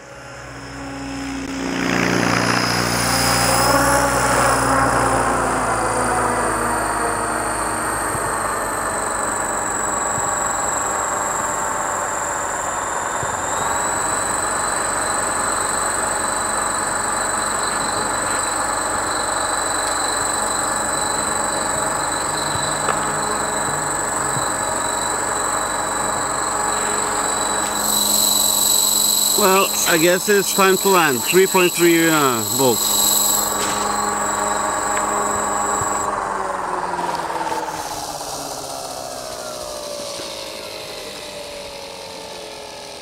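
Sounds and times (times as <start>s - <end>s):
high motor whine: 0.0s - 42.0s.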